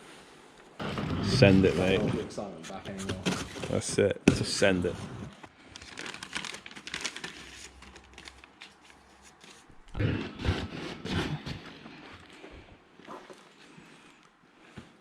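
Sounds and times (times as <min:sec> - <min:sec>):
crinkling and rustling: 0:00.7 - 0:15.0.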